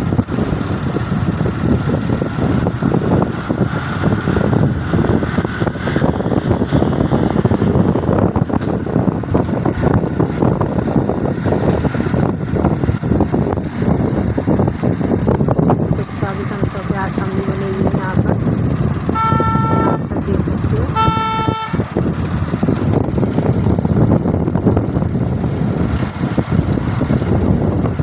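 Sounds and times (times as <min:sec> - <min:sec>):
moving vehicle rumble: 0:00.0 - 0:28.0
wind buffeting microphone: 0:00.0 - 0:28.0.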